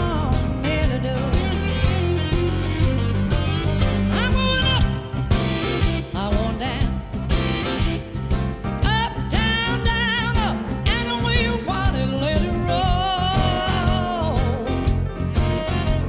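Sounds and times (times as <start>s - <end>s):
song with sung melody and beat: 0.0s - 16.0s.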